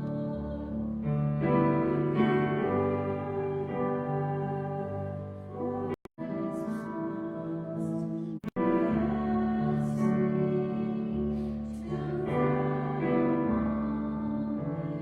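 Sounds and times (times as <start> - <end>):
hymn on keyboard: 0.0 - 15.0.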